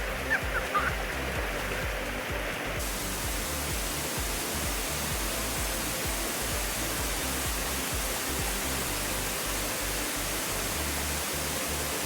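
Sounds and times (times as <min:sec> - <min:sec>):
background music: 0:00.0 - 0:12.0
waterfall roar: 0:00.0 - 0:12.0.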